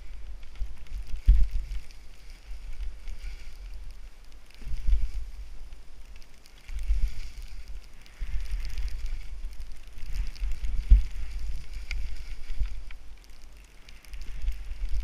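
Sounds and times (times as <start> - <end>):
wind buffeting microphone: 0.0 - 5.9, 6.7 - 13.4, 14.1 - 15.0
skis hissing through powder snow: 0.0 - 15.0.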